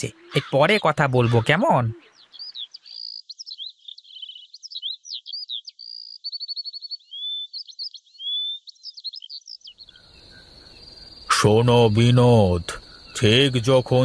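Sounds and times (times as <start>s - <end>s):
cricket chirring: 0.0s - 14.0s
small songbirds chirping: 0.0s - 14.0s.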